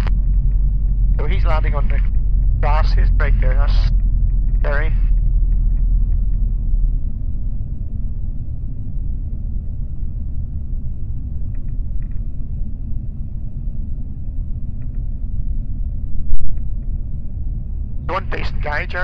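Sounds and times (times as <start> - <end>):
light aircraft engine rumble: 0.0 - 19.0.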